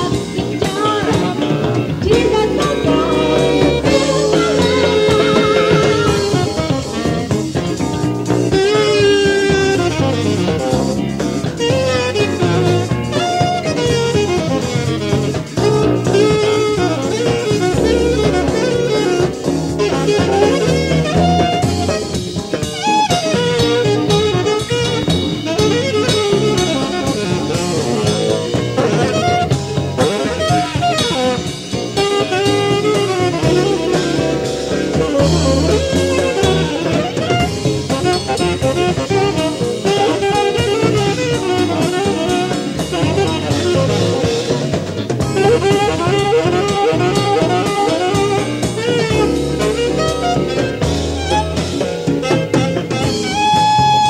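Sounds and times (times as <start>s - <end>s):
drum kit: 0.0s - 54.0s
electric bass: 0.0s - 54.0s
electric guitar: 0.0s - 54.0s
live jazz band playing: 0.0s - 54.0s
saxophone line: 0.0s - 54.0s.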